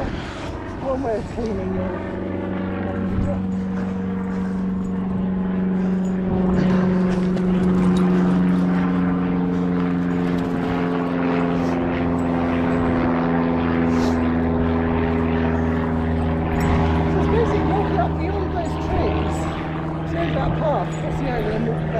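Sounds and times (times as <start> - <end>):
engine drone: 0.0 - 21.9.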